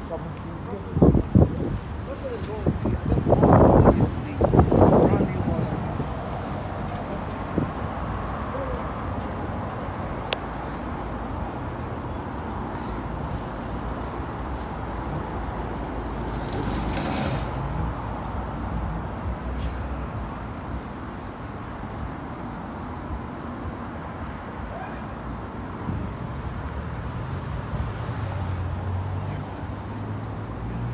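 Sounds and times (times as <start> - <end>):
road traffic passing: 0.0 - 30.9.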